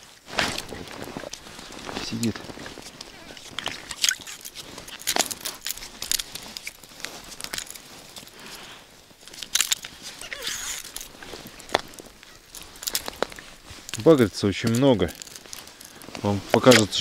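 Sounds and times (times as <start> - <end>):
ice-fishing gear being handled: 0.0 - 17.0.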